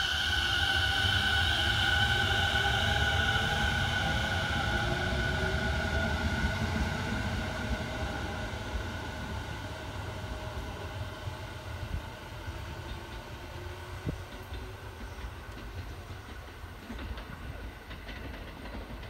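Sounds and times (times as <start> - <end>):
electric train motor whine: 0.0 - 16.0
train wheel rumble: 0.0 - 19.0.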